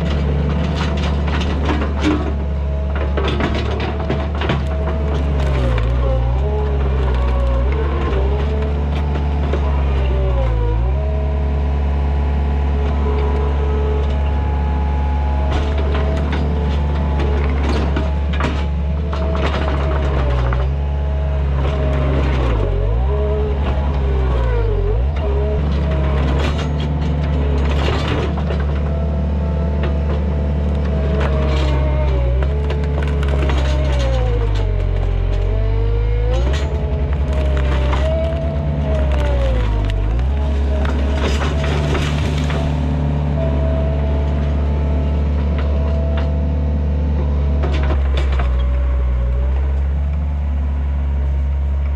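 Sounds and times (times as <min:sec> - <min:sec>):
wood cracking: 0:00.0 - 0:13.6, 0:14.2 - 0:46.8
diesel engine lugging under load: 0:00.0 - 0:51.9.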